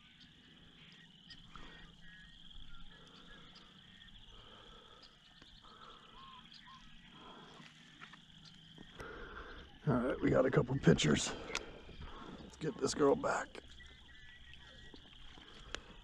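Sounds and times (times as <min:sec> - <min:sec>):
distant animals trilling chorus: 0:00.0 - 0:16.0.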